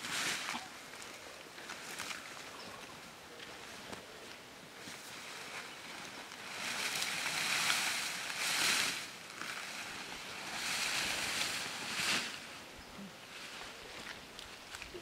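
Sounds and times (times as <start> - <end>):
wind rushing through grass and trees: 0.0 - 15.0.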